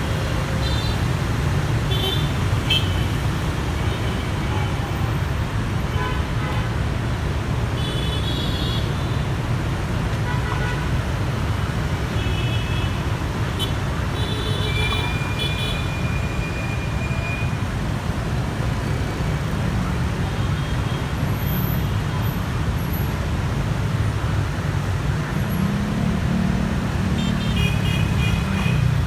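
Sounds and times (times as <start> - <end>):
road traffic engines rumbling: 0.0 - 29.0.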